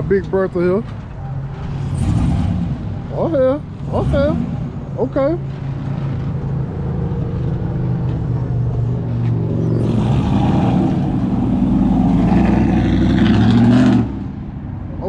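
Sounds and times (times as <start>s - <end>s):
truck engine rumbling: 0.0s - 15.0s
broad rushing noise: 0.8s - 14.4s.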